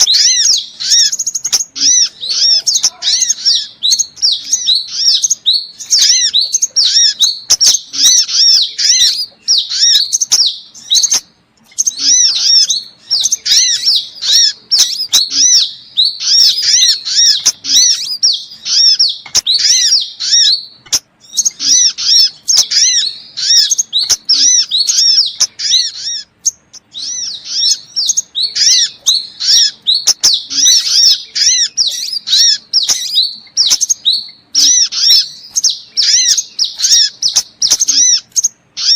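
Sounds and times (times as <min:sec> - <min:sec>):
sunbird chirping: 0:00.0 - 0:38.9.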